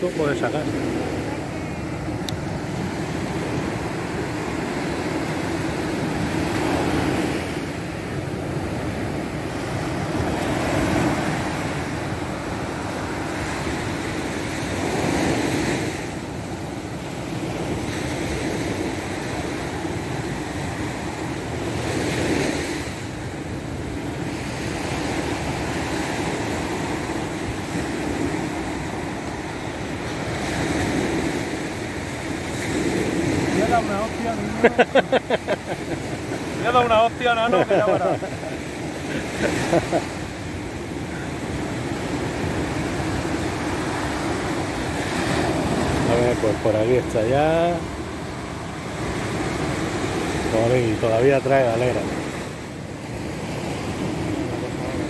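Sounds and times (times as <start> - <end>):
surf breaking on shore: 0.0 - 55.0.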